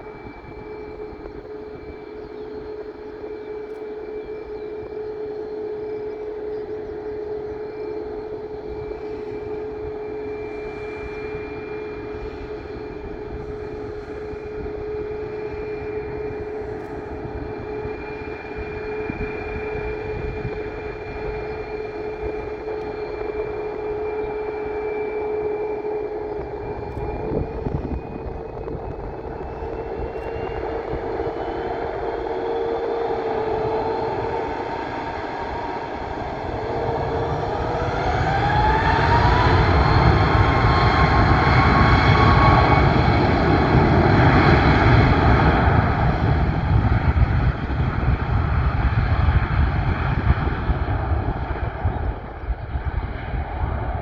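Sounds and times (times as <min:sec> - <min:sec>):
jet engines whining and roaring: 0:00.0 - 0:54.0.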